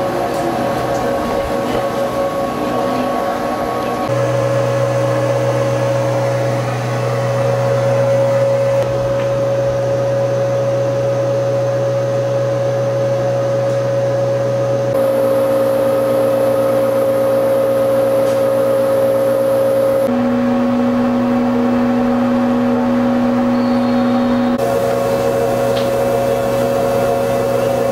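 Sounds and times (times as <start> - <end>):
motor-generator hum and whine: 0.0 - 27.9.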